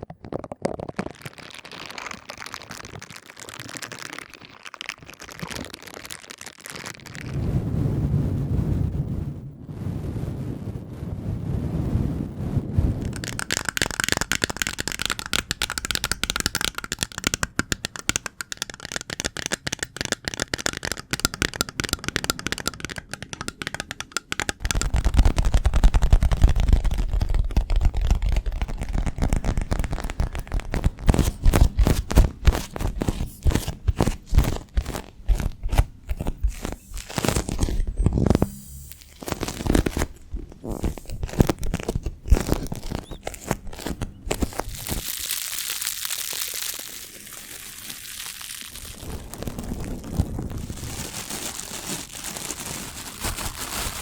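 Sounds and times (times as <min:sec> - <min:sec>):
close crinkling and crackling: 0:00.0 - 0:07.6, 0:13.0 - 0:54.0.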